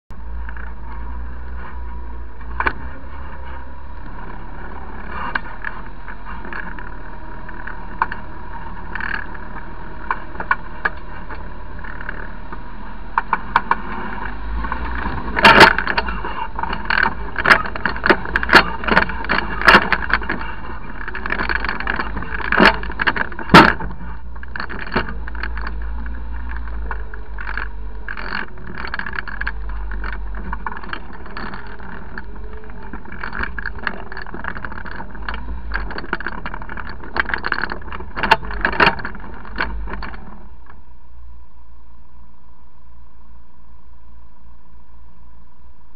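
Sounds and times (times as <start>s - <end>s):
vehicle engine drone: 0.1s - 45.9s
knocks and clatters over rocks: 0.3s - 40.8s.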